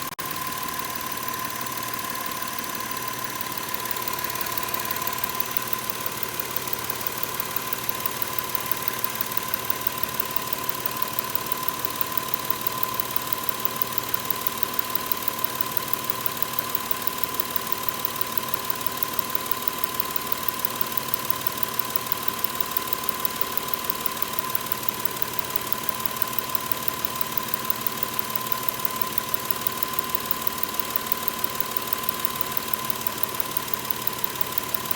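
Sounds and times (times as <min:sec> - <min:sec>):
light ticking: 0:00.0 - 0:34.9.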